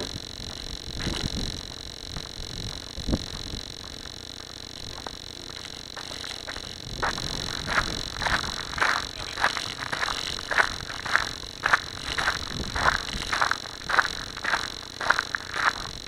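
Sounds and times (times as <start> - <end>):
steady high whine: 0.0 - 16.0
wind noise: 0.0 - 16.0.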